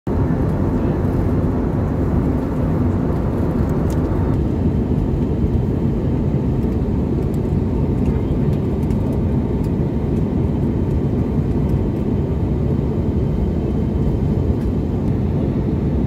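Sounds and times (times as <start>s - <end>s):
jet engines droning: 0.1s - 16.0s.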